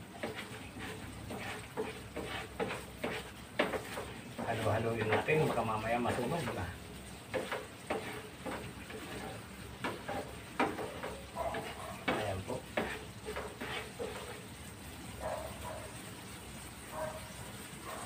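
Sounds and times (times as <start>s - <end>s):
spatula scraping a frying pan: 0.0s - 18.0s.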